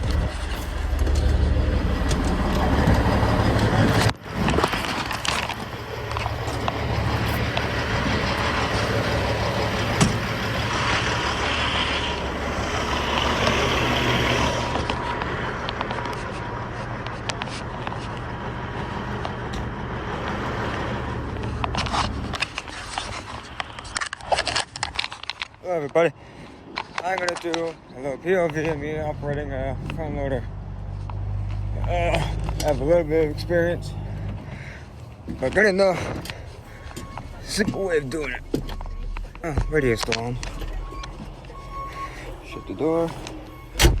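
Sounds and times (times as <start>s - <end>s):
heavy vehicle engine running: 0.0s - 25.4s, 28.4s - 44.0s.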